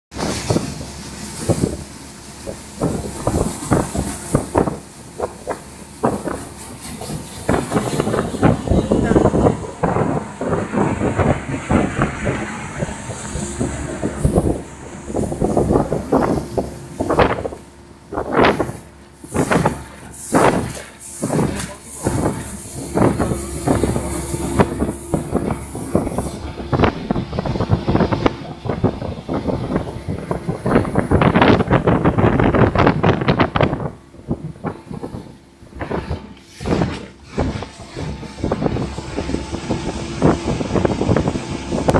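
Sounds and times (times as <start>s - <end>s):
hull slapping waves: 0.1s - 41.9s
speed boat engine and spray: 0.1s - 41.9s
wind buffeting microphone: 0.1s - 41.9s.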